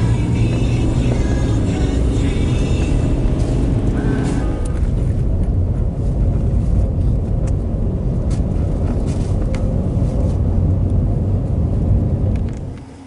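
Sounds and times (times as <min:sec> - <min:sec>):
truck engine and tyre rumble: 0:00.0 - 0:13.0.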